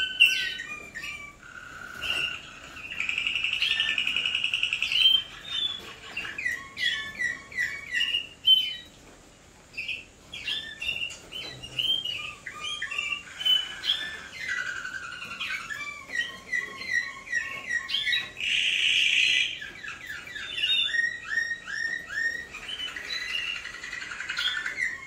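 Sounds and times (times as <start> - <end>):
canaries singing: 0.0 - 25.0.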